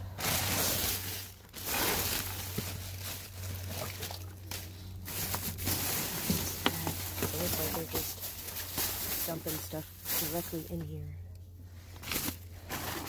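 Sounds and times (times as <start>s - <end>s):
rustling items in dumpster: 0.0s - 13.0s
steady low hum: 0.0s - 13.0s.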